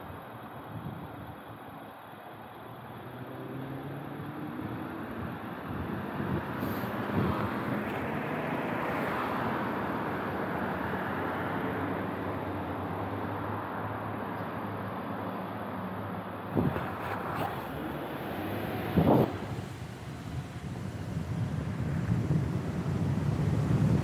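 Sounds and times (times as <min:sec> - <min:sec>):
cars driving past: 0:02.6 - 0:24.0.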